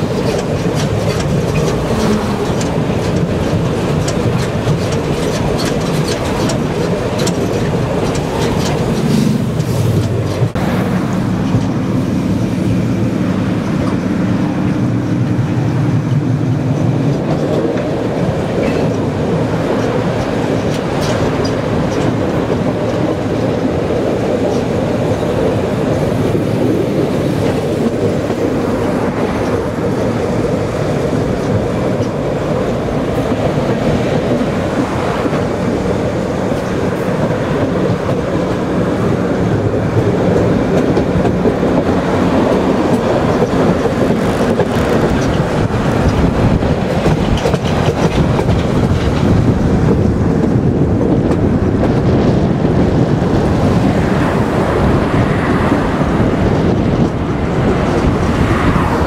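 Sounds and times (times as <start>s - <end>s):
train wheels rumbling: 0.0s - 59.0s
wheels clicking over rail joints: 0.0s - 59.0s.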